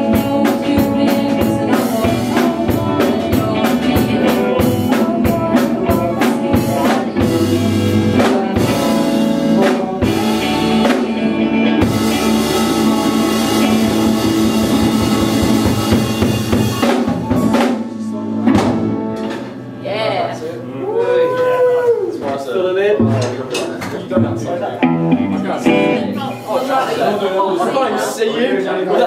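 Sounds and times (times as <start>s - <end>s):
drum kit beat: 0.0s - 19.8s, 23.0s - 26.6s
electric guitars: 0.0s - 21.9s, 24.1s - 26.6s
bass guitar: 0.0s - 22.2s, 23.0s - 23.5s, 24.1s - 26.5s.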